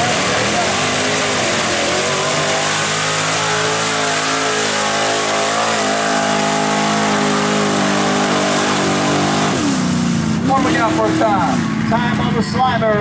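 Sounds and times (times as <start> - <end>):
truck engine at high revs: 0.0 - 13.0.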